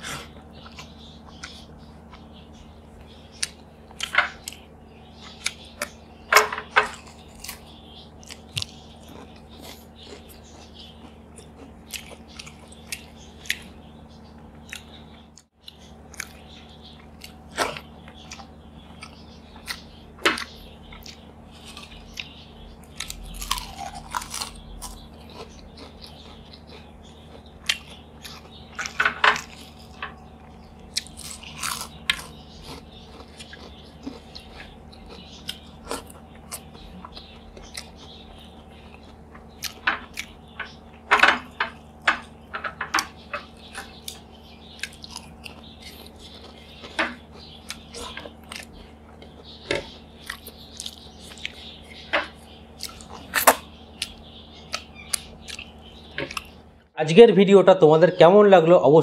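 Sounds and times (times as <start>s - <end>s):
steady low hum: 0.0s - 59.0s
person chewing crunchy chips: 6.4s - 13.8s, 14.5s - 56.7s.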